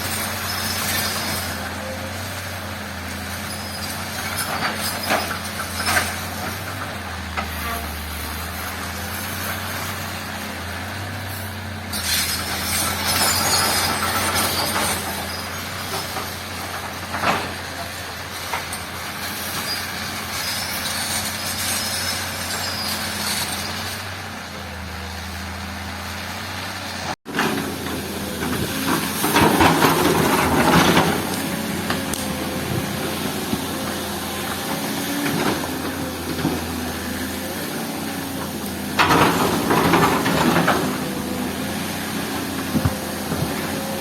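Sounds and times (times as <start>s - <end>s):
earthmoving machine diesel engine: 0.0s - 44.0s.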